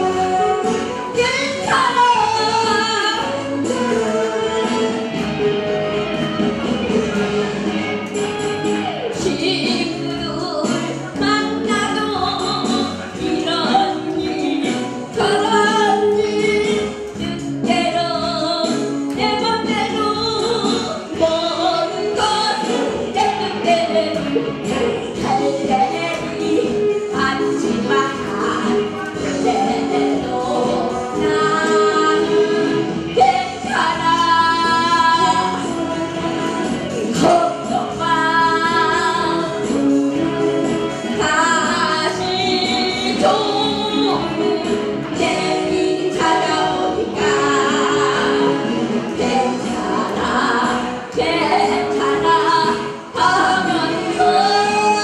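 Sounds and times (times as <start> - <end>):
woman singing into microphone: 0.0 - 5.8, 8.4 - 55.0
backing music: 0.0 - 55.0
instrumental accompaniment: 0.0 - 55.0.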